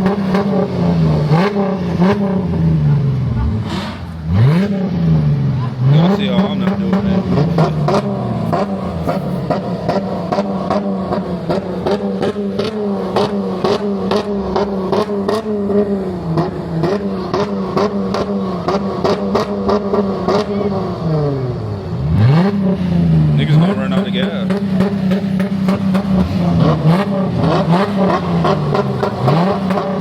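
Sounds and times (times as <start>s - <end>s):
car engine at high revs: 0.0s - 30.0s.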